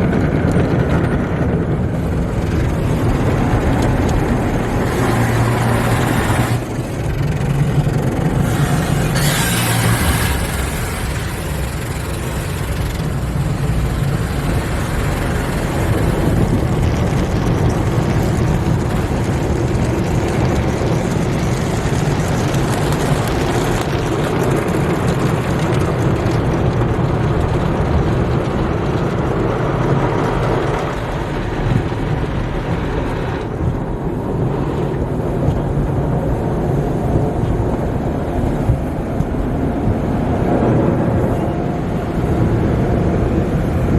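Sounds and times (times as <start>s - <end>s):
car wash equipment: 0.0s - 43.9s
low rumble: 0.0s - 43.9s.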